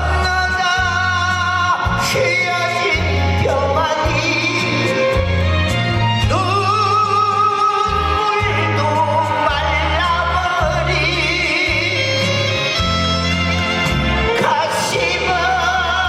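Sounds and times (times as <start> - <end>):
band accompaniment: 0.0 - 16.0
person singing with vibrato: 0.0 - 16.0.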